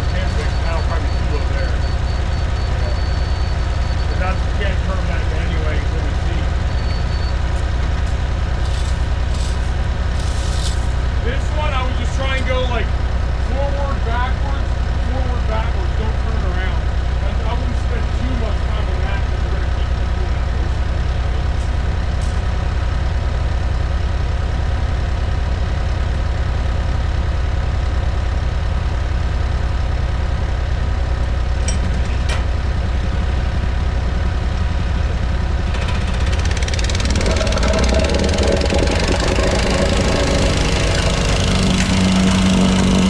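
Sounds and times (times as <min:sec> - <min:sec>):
landscaping machine engine running: 0:00.0 - 0:43.0.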